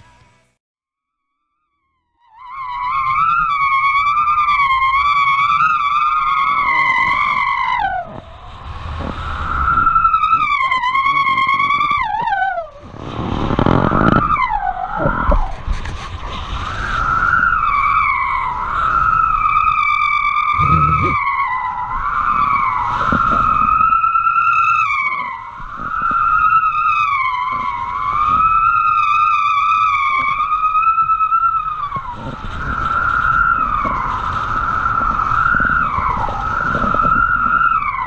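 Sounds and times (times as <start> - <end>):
wavering high whistle of kite lines: 1.0 - 38.0
wind buffeting microphone: 2.8 - 38.0.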